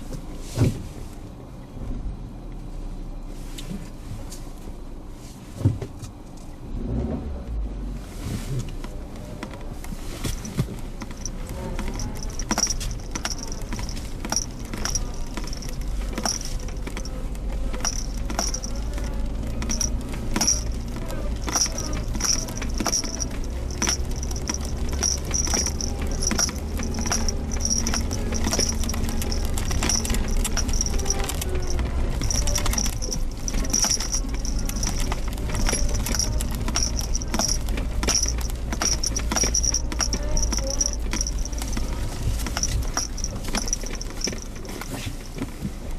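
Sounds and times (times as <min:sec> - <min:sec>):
engine and road rumble: 0:00.0 - 0:45.9
knocks and rattles from vehicle body: 0:08.3 - 0:45.9.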